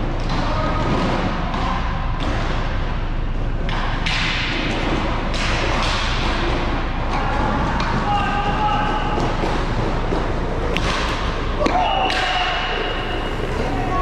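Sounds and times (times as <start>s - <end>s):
hockey sticks and puck thudding: 0.0s - 14.0s
steady low hum: 0.0s - 14.0s.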